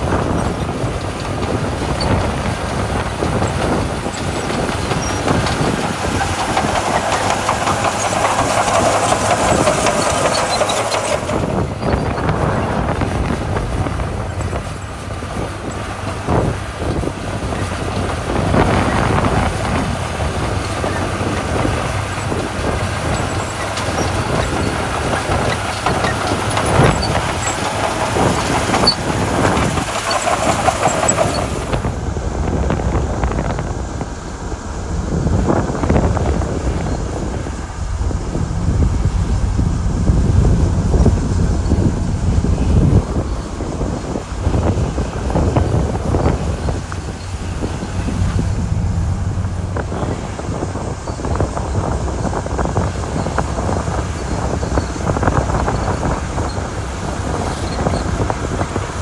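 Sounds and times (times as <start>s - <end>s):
bulldozer diesel engine under load: 0.0s - 59.0s
steel tracks clanking: 0.0s - 59.0s.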